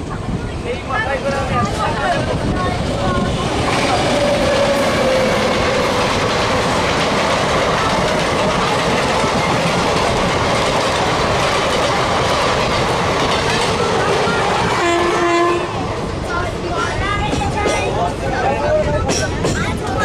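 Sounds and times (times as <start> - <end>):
train wheels rushing on rail: 0.0 - 20.0
clickety-clack over rail joints: 1.1 - 15.6, 16.2 - 20.0.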